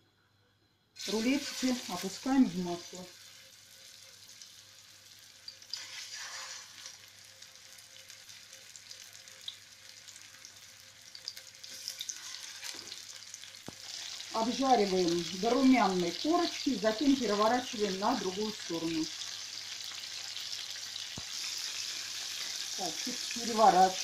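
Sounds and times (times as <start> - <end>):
food sizzling in hot oil: 1.0 - 24.0.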